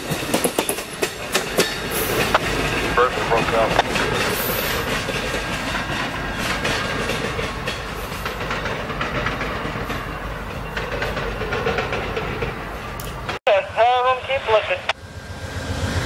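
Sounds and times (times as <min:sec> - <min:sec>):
wheels clacking over rail joints: 0:00.0 - 0:13.4
train wheels rumbling: 0:00.0 - 0:16.0.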